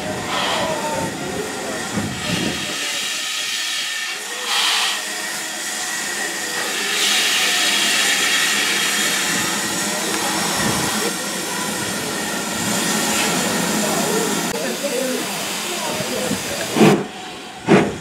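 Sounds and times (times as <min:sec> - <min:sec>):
train rolling slowly: 0:00.0 - 0:18.0
steam hissing: 0:00.1 - 0:18.0.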